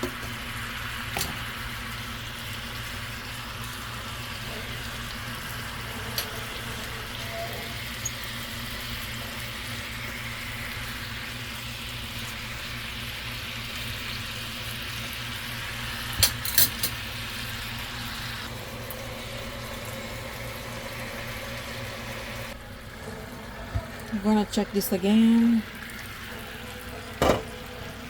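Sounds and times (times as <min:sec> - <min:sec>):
chicken sizzling in a pan: 0:00.0 - 0:24.0, 0:25.1 - 0:28.0.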